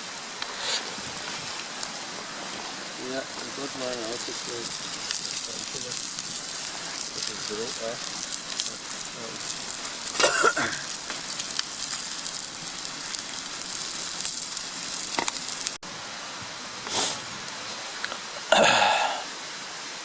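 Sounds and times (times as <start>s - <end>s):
campfire crackling and popping: 0.0s - 15.8s, 16.8s - 19.0s.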